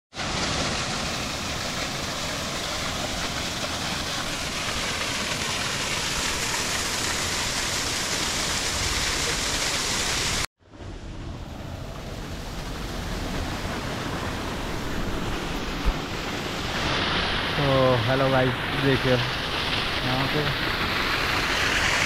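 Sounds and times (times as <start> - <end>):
waterfall rushing: 0.2 - 10.5, 11.4 - 22.0.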